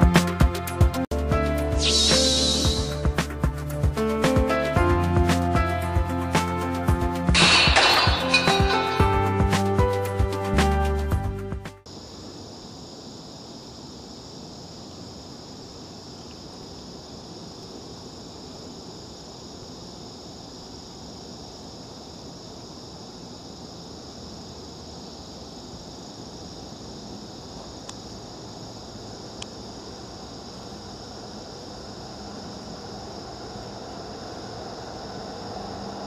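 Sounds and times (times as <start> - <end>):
high-pitched insect chorus: 0.0 - 10.6, 11.8 - 36.0.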